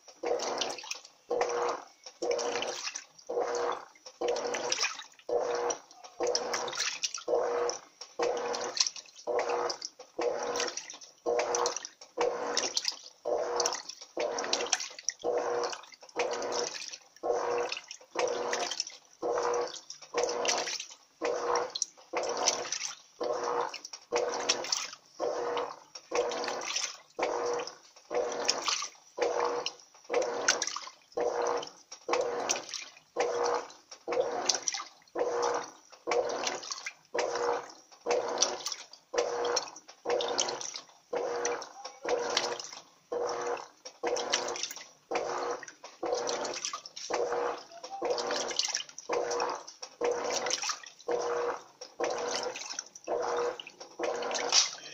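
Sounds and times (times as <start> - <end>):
washing machine water swishing: 0.0 - 54.9.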